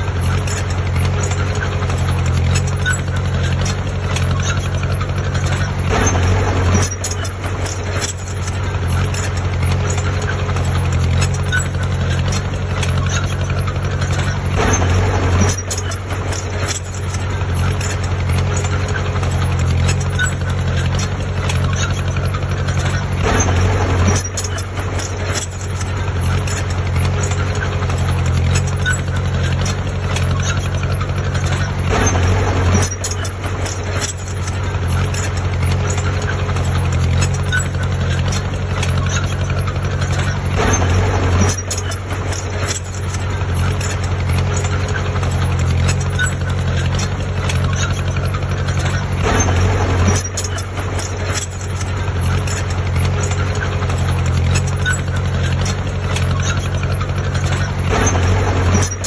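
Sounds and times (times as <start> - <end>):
diesel engine humming and clattering: 0.0 - 59.0.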